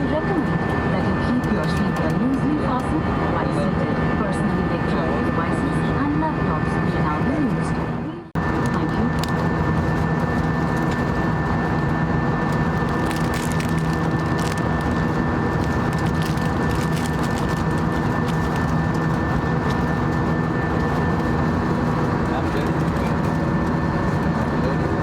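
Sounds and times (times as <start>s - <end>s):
airplane engines droning: 0.0s - 25.0s.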